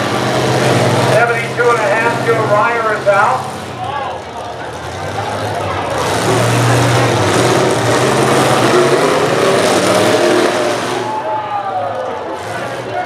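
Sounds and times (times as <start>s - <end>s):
truck engines running hard: 0.0s - 13.0s.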